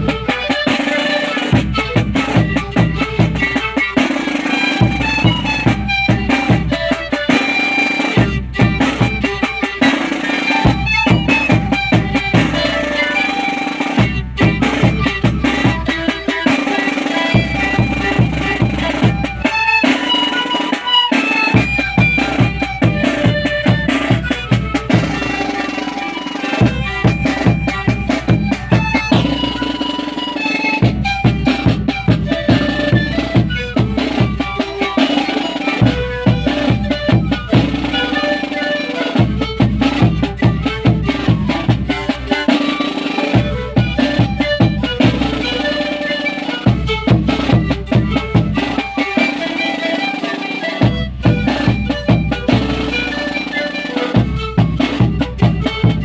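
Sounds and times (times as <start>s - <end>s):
panpipe ensemble playing: 0.0s - 56.0s
snare drum: 0.0s - 56.0s.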